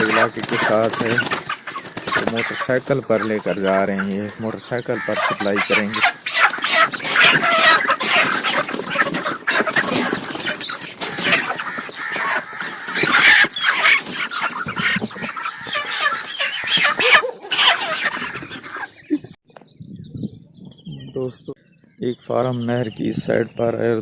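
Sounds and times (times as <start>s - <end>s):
chickens clucking and squawking: 0.0s - 19.4s.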